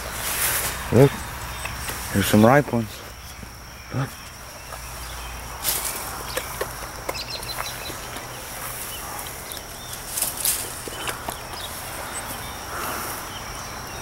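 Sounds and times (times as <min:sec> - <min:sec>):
rustling of leaves and stems: 0:00.0 - 0:14.0.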